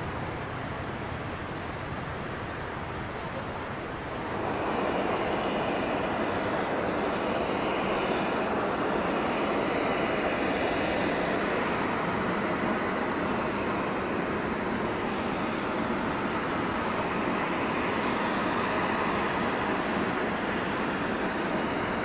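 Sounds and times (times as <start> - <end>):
jet engines of taxiing airliner: 0.0 - 22.0.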